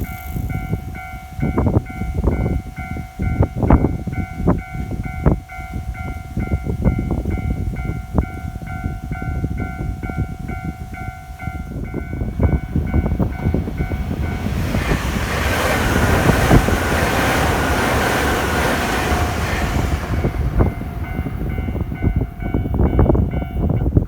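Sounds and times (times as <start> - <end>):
train wheels on rails: 0.0 - 24.0.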